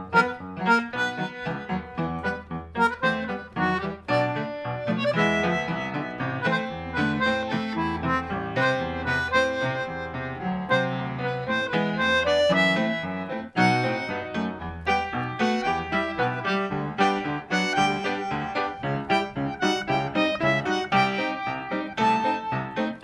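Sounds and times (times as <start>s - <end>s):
concertina playing lively tune: 0.0s - 23.0s
upright piano: 0.0s - 23.0s.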